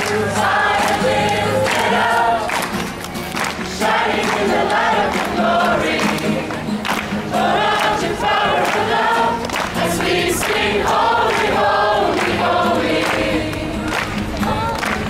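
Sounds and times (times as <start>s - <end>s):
crowd clapping along: 0.0s - 15.0s
crowd singing in unison: 0.0s - 15.0s.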